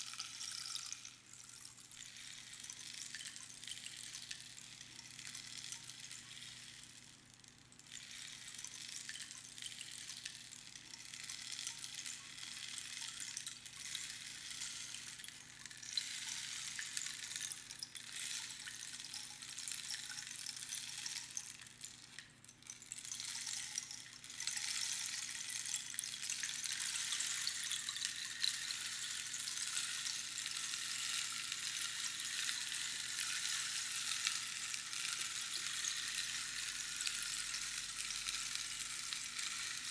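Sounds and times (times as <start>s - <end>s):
rainstick pebbles trickling: 0.0s - 39.9s.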